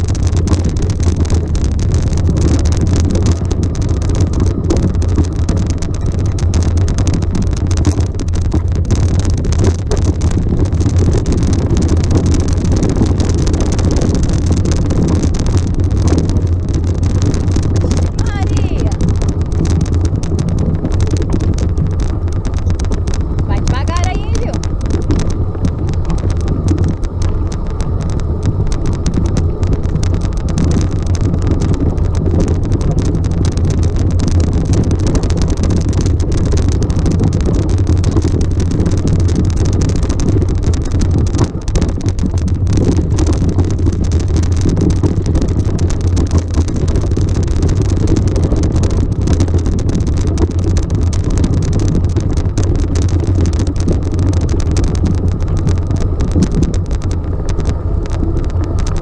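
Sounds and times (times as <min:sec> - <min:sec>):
motor vehicle low rumble: 0:00.0 - 0:59.0.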